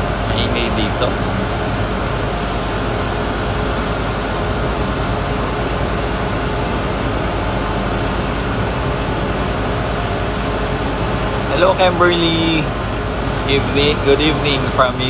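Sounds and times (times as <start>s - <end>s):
faint steady tones: 0.0s - 15.0s
low hum: 0.0s - 15.0s
outdoor mechanical rushing noise: 0.0s - 15.0s.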